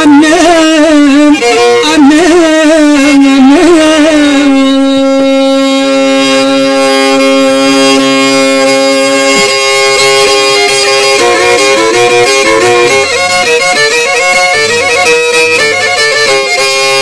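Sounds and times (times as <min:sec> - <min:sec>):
slow melody with bending notes: 0:00.0 - 0:17.0.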